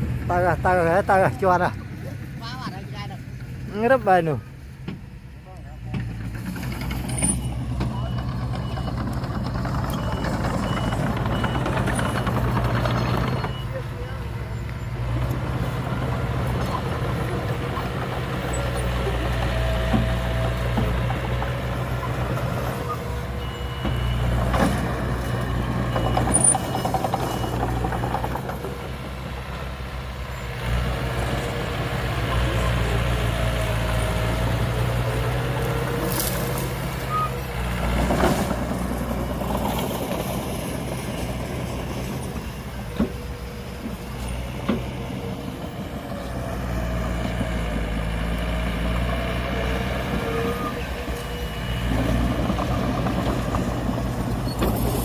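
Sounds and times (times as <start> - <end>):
diesel earthmoving machinery running: 0.0 - 55.0.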